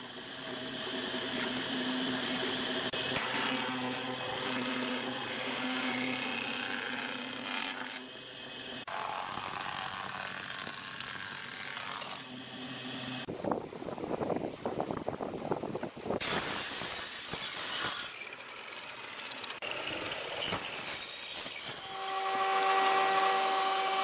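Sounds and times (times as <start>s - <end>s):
cutterhead planing wooden board: 1.0s - 13.0s, 16.4s - 24.0s.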